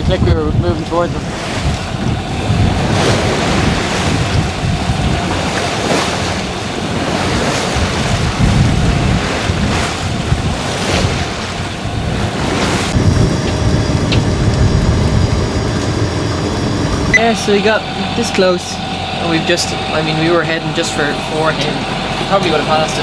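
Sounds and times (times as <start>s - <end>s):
waves rushing: 0.0s - 23.0s
wind buffeting microphone: 0.0s - 23.0s.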